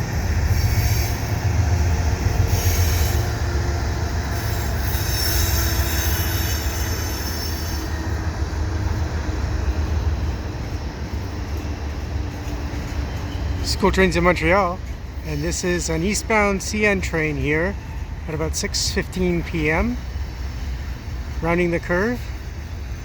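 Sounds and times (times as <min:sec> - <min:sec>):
train wheels squealing on rail: 0:00.0 - 0:18.6, 0:19.7 - 0:23.0
train rumbling: 0:00.0 - 0:23.0.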